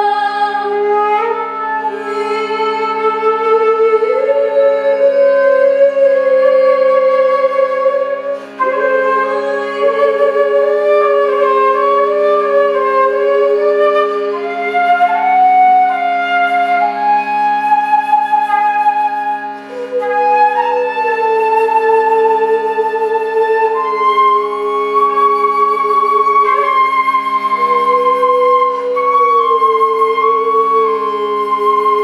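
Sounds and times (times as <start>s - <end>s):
flute playing slow melody: 0.0s - 32.0s
low drone: 0.0s - 32.0s.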